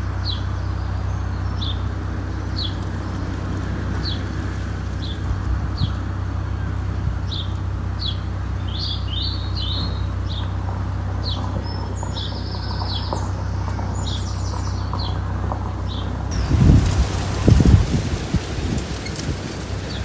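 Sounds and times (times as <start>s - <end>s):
small songbirds chirping: 0.0s - 20.0s
steady low rumble: 0.0s - 20.0s.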